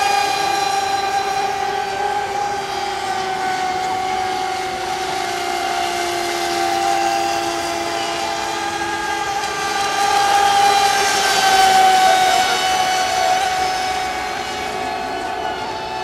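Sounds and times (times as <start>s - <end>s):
boat motor high-pitched whine: 0.0s - 16.0s.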